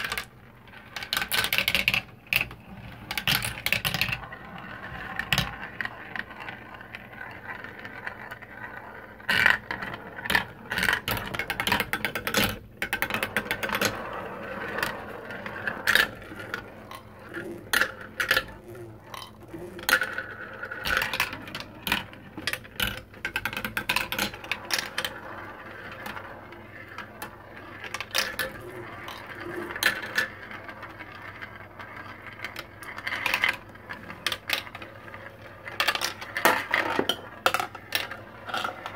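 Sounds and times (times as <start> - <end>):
marbles clicking and clacking: 0.0 - 38.9
marbles rolling in plastic tracks: 0.0 - 38.9.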